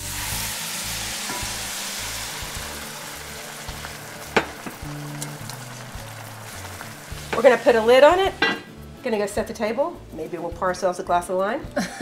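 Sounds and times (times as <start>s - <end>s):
liquid sizzling in hot pot: 0.0s - 10.2s.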